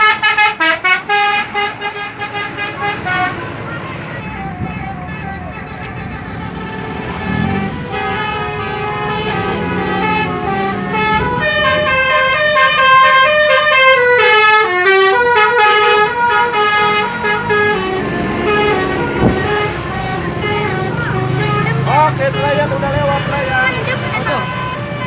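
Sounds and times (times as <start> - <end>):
bus horn playing a melody: 0.0 - 25.0.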